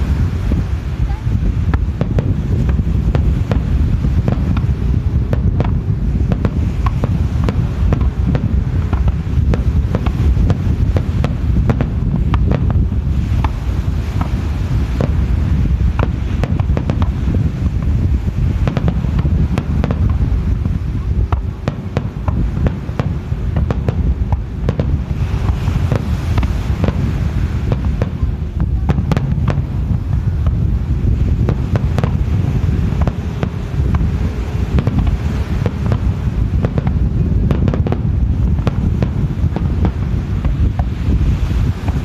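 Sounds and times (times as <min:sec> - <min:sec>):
wind on the microphone: 0:00.0 - 0:42.0
firework shells bursting: 0:01.7 - 0:42.0.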